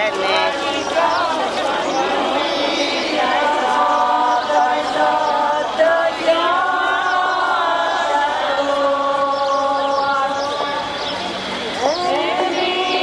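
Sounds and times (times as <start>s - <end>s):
group singing liturgical chant: 0.0s - 11.2s, 11.8s - 13.0s.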